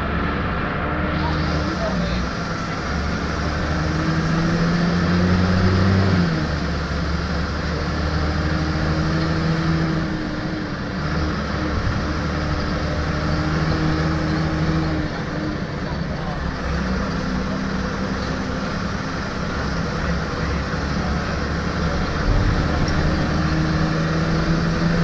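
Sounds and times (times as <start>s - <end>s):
bus diesel engine pulling: 0.0s - 25.0s
road and cabin noise: 0.0s - 25.0s.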